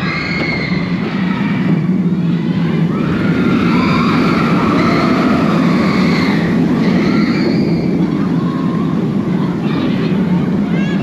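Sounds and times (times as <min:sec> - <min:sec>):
roller coaster wind and track noise: 0:00.0 - 0:11.0.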